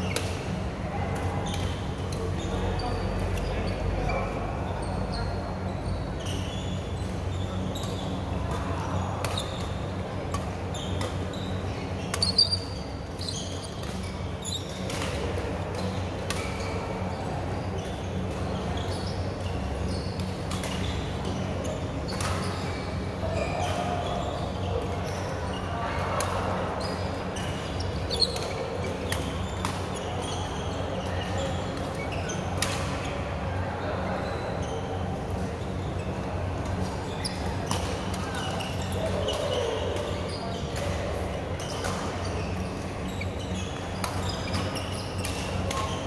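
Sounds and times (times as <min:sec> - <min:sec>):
shoes squeaking on court: 0:00.0 - 0:33.4, 0:34.2 - 0:46.0.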